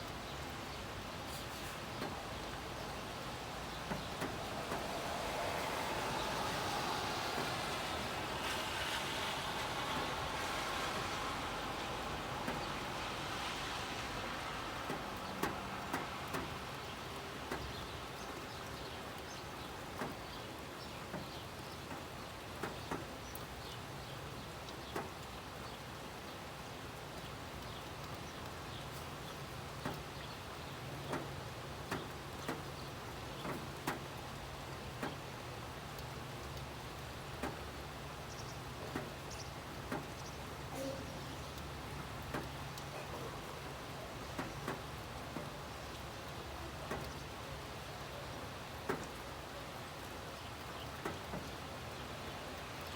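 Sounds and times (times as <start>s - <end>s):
car passing on wet road: 0.0s - 52.9s
raindrops ticking: 0.0s - 52.9s
steady rain: 0.0s - 52.9s.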